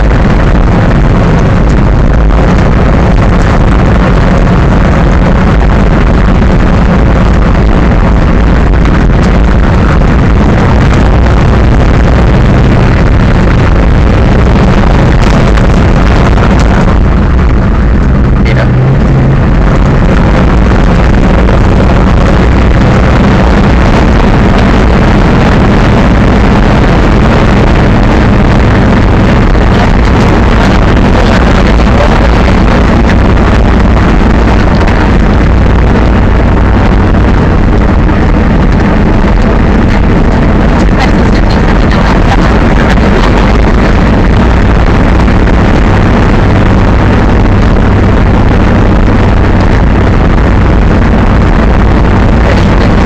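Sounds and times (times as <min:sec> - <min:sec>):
truck engine running loud: 0:00.0 - 0:53.0.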